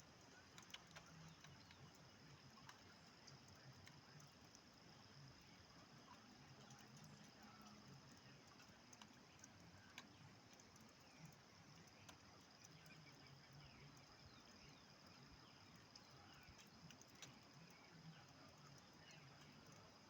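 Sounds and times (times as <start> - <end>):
faint ticks: 0.0 - 20.0.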